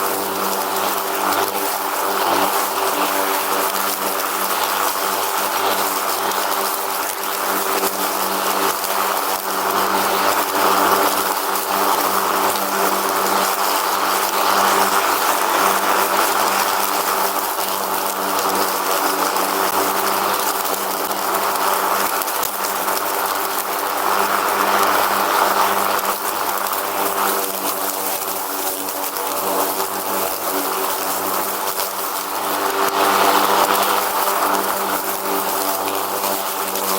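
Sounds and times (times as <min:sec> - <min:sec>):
riding lawn mower engine running: 0:00.0 - 0:36.9.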